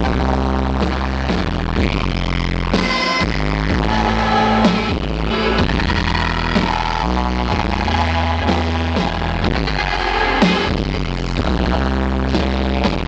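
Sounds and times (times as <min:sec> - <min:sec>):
heavy bass: 0:00.0 - 0:13.0
live rock band playing loud: 0:00.0 - 0:13.0.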